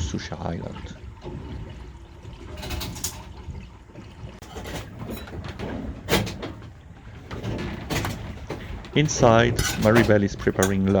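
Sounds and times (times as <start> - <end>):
water swishing and trickling: 0.0 - 11.0.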